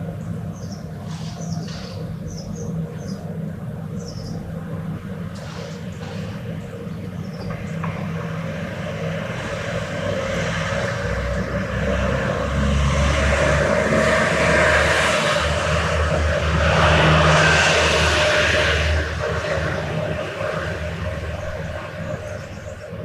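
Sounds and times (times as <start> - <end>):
aircraft engine drone: 0.0 - 23.0.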